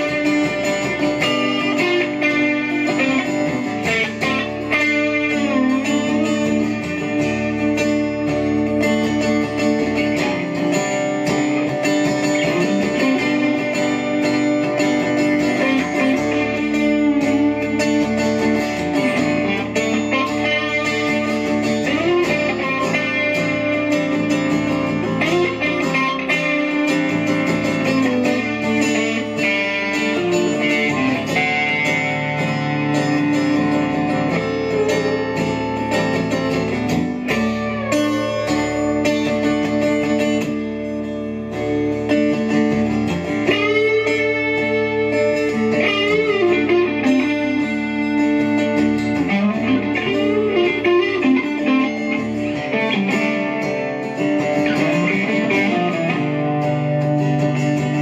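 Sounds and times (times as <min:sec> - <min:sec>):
lead electric guitar: 0:00.0 - 0:58.0
looped guitar backing: 0:00.0 - 0:58.0.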